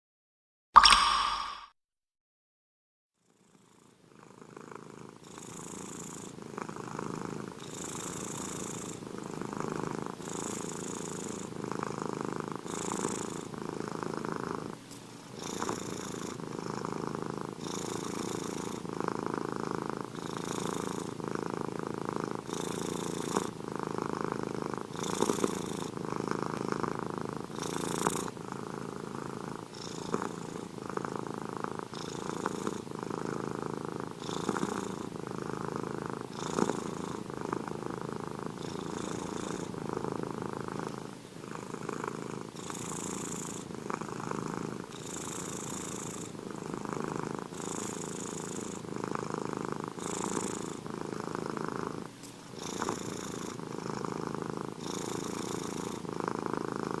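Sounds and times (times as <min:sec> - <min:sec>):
cat purring: 0:03.5 - 0:57.0.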